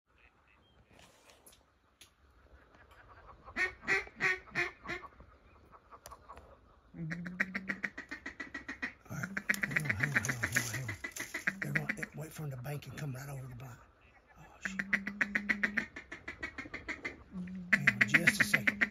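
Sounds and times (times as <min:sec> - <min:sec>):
ducks quacking: 0:02.5 - 0:18.9.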